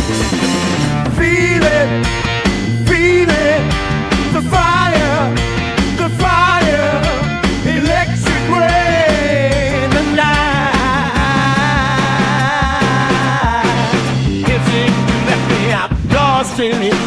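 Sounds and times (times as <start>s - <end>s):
bass: 0.0s - 17.0s
steady drumbeat: 0.0s - 17.0s.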